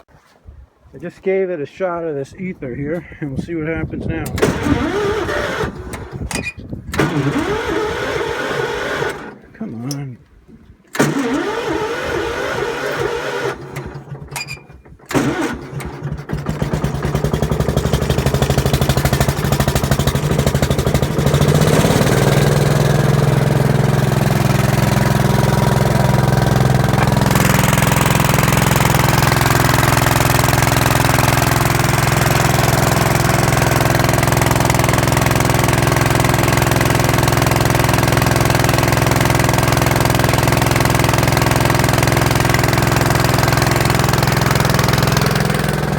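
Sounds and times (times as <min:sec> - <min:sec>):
tractor engine cranking and running: 0:04.0 - 0:10.2, 0:10.8 - 0:45.9.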